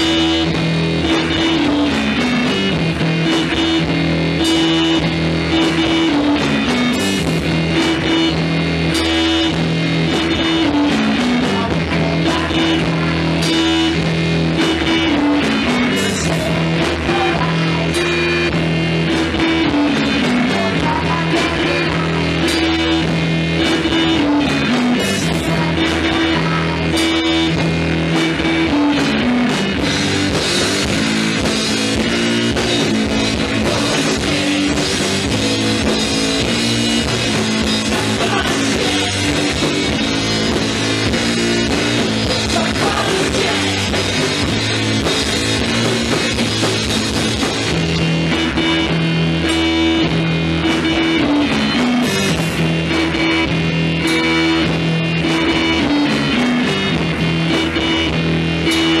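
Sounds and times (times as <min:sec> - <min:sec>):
drum kit: 0:00.0 - 0:59.0
electric bass guitar: 0:00.0 - 0:59.0.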